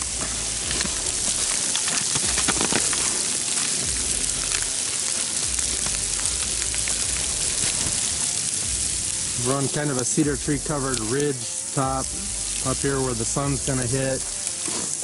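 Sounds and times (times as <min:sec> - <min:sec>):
sleet and rain pattering: 0:00.0 - 0:15.0.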